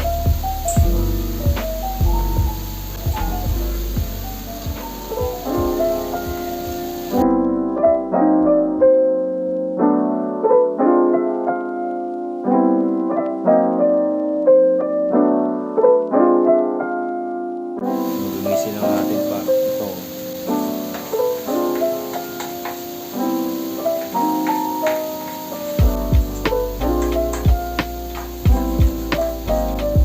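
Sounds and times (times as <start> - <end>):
faint hiss: 0.0 - 30.0
gentle piano music: 0.0 - 30.0.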